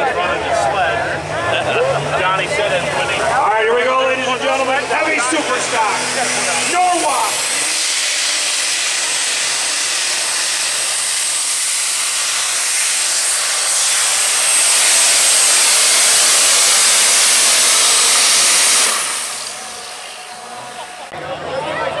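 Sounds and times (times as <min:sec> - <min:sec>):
diesel engine roaring: 0:00.0 - 0:22.0.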